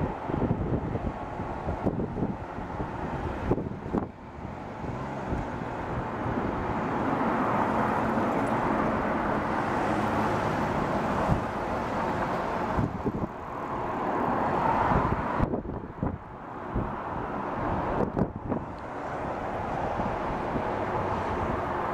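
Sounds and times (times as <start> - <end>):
vehicle rumble: 0.0 - 21.9.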